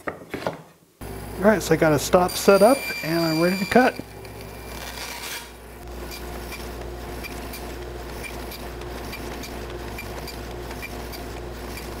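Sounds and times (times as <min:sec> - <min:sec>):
bandsaw humming: 0:01.0 - 0:12.0.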